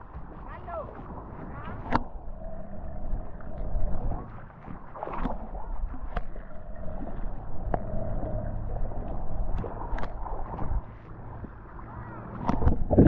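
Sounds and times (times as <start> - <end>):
faint steady hum: 0.0 - 13.0
underwater rumble of moving water: 0.0 - 13.0
gurgling bubbles: 1.8 - 13.0.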